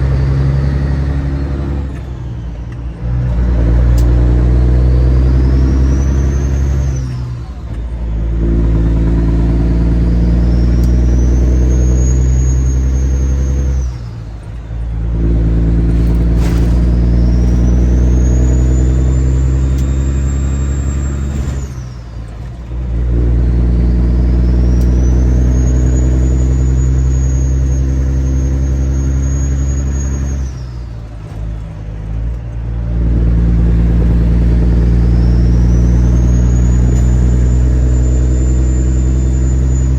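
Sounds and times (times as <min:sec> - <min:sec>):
high turbo whistle: 0:00.0 - 0:22.3, 0:23.2 - 0:31.1, 0:33.0 - 0:39.9
diesel truck engine running hard: 0:00.0 - 0:39.9.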